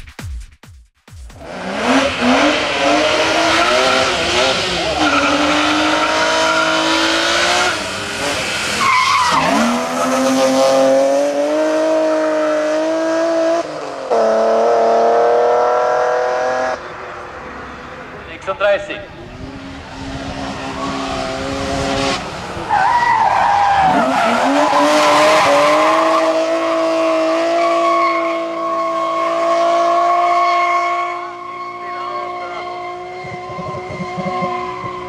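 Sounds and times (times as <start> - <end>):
race car engine at full throttle: 1.4 - 35.0.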